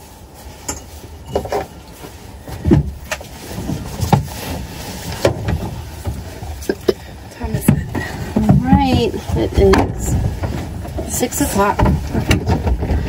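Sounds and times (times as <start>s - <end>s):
knocks and clunks: 2.5s - 13.0s.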